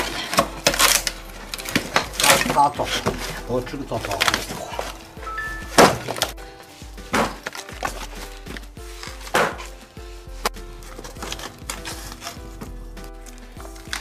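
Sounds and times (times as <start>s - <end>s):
wood splitting cracks: 0.0s - 6.4s, 7.1s - 9.8s, 10.4s - 14.0s.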